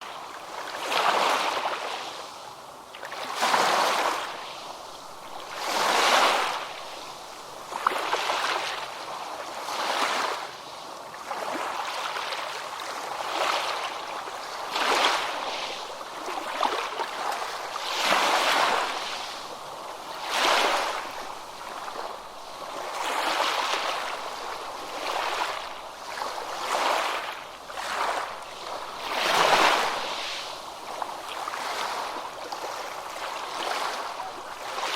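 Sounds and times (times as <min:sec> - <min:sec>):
waves breaking on beach: 0:00.0 - 0:34.9.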